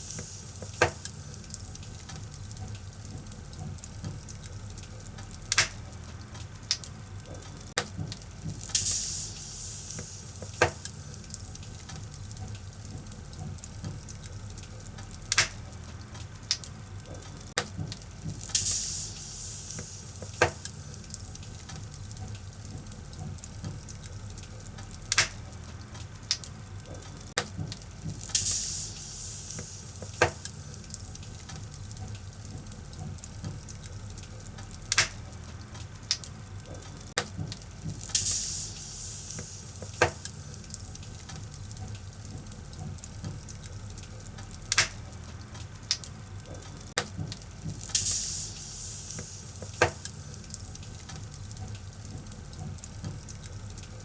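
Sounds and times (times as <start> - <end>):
fire hissing bursts: 0.0 - 6.8, 7.8 - 53.8
fire crackles and pops: 0.0 - 54.0
low rumble of flames: 0.0 - 54.0.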